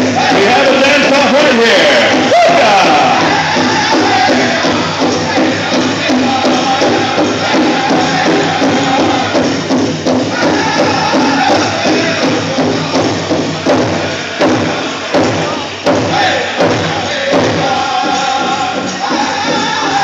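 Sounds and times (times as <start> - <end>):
drum group singing: 0.0 - 20.0
steady big drum beat: 0.0 - 20.0.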